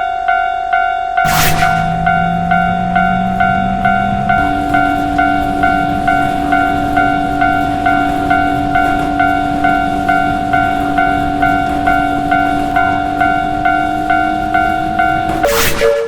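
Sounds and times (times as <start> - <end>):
railroad crossing bell ringing: 0.0 - 16.0
low hum: 1.3 - 15.5.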